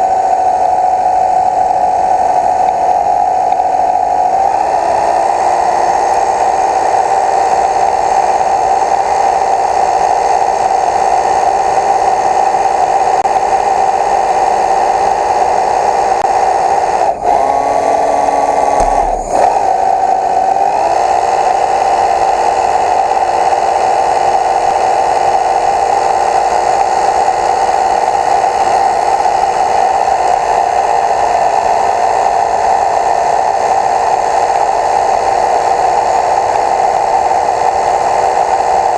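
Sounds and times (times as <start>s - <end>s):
small motor whining: 0.0s - 38.9s.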